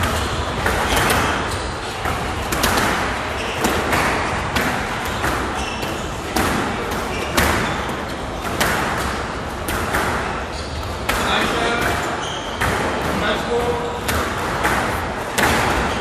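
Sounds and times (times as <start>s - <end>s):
squash ball hit by racquets: 0.0s - 16.0s.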